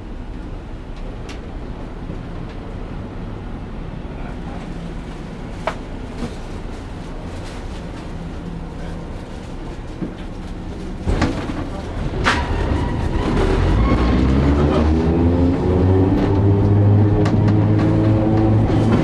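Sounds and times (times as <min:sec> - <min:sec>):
streetcar motors humming: 0:00.0 - 0:19.0.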